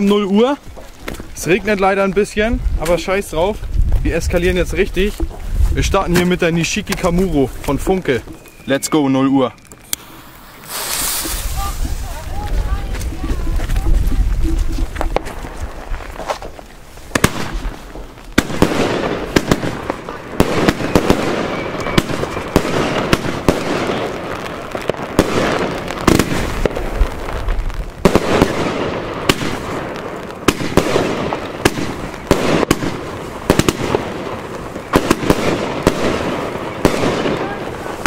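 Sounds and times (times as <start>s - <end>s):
crackling hiss of fireworks: 0.0s - 38.0s
firework launch reports and bursts: 0.0s - 38.0s.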